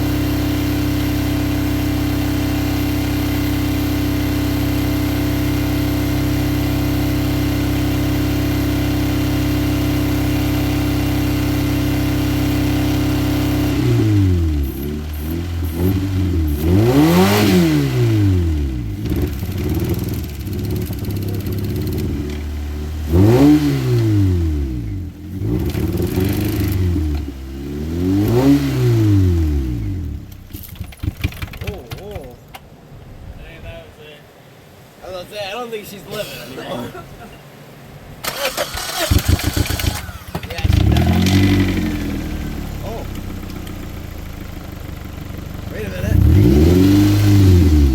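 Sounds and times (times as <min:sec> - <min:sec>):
car engine revving: 0:00.0 - 0:32.2, 0:38.2 - 0:47.9.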